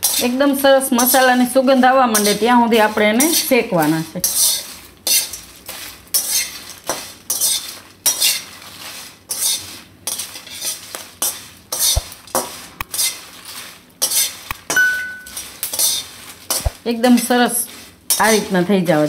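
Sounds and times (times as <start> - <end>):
metal spatula scraping spices in pan: 0.0 - 19.0.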